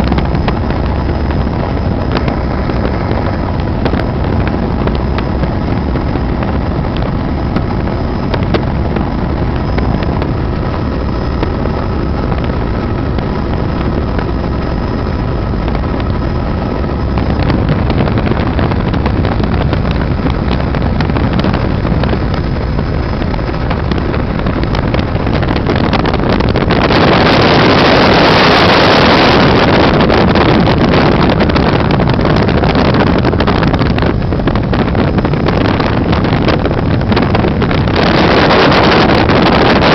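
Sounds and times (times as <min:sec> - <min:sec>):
helicopter engine and rotor drone: 0:00.0 - 0:39.9
wind-like rush: 0:00.0 - 0:39.9.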